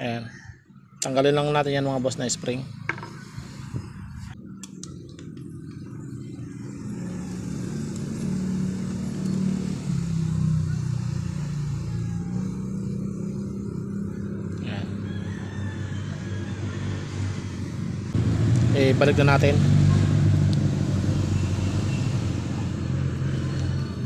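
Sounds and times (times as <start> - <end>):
vehicle engine humming: 1.7 - 24.0.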